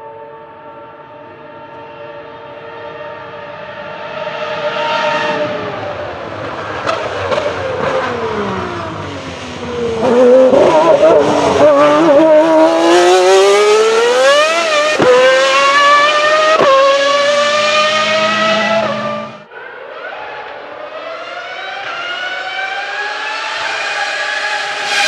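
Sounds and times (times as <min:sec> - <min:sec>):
racing car engine passing: 0:00.1 - 0:25.0.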